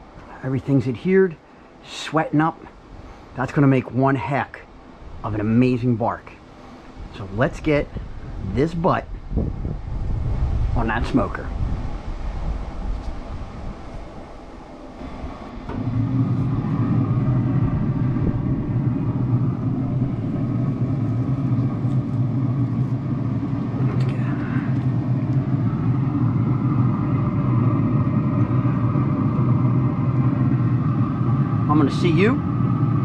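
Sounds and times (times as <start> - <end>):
smoker fan hum: 0.0 - 33.0.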